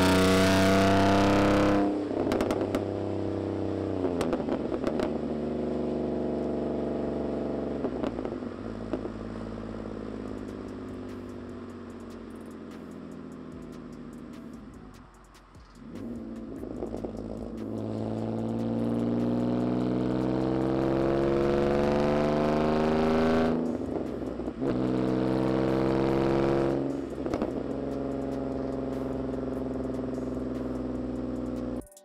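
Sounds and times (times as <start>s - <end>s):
car exhaust pulling hard: 0.0s - 14.7s, 15.5s - 31.8s.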